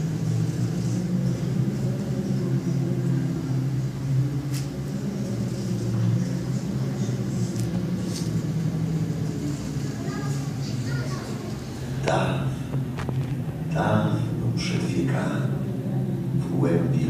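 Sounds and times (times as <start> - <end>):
low rumbling drone soundtrack: 0.0 - 17.0.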